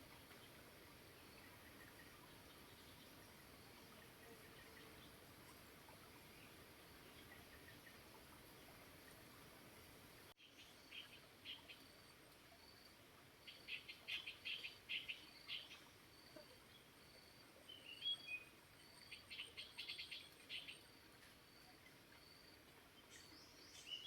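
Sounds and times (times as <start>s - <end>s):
songbirds chirping: 0.0s - 24.0s
stream flowing: 0.0s - 24.0s.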